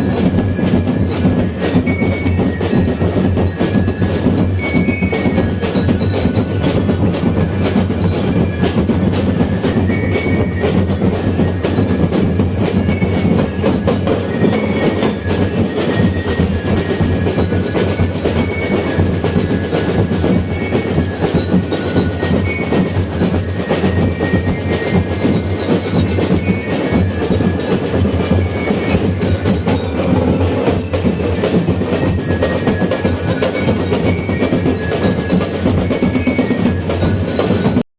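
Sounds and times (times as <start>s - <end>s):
drums and metal percussion: 0.0s - 37.9s.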